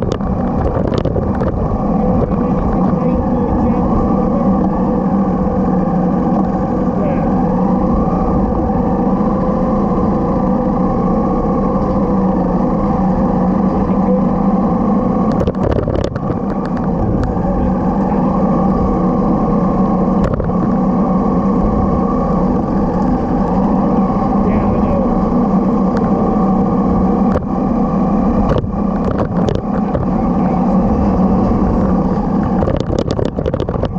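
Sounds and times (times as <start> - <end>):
motorcycle engine cruising: 0.0 - 33.9.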